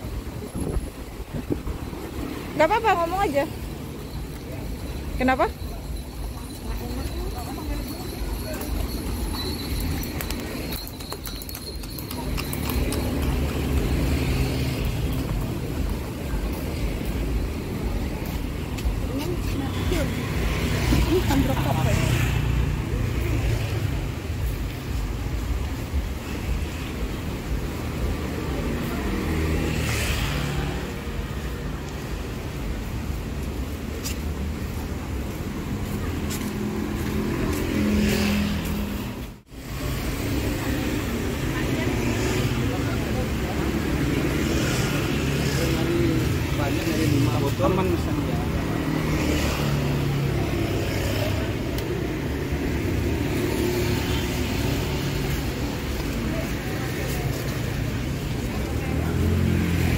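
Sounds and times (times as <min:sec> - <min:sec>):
street noise: 0:00.0 - 0:59.9.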